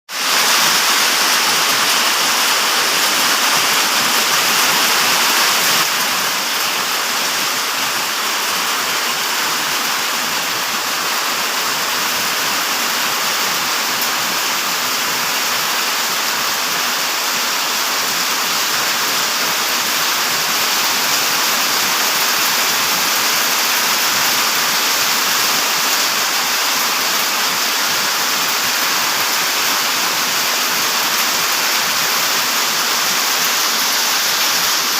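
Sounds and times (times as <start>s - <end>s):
drizzling rain: 0.1s - 34.9s.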